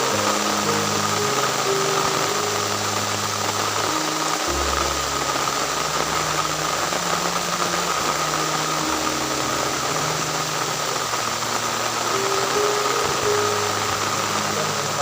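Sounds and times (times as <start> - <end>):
soft music of low held notes: 0.0 - 15.0
steady hiss with faint tone: 0.0 - 15.0.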